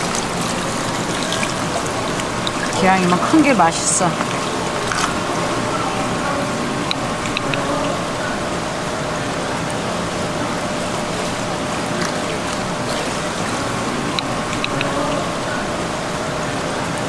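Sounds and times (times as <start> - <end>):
running water rushing: 0.0 - 16.8
faint steady hum: 0.0 - 17.0.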